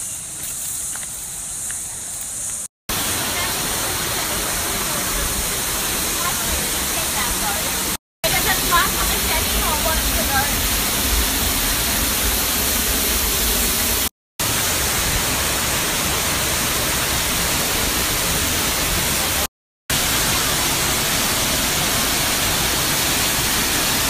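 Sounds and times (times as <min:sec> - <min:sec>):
waterfall rushing: 0:02.9 - 0:24.0.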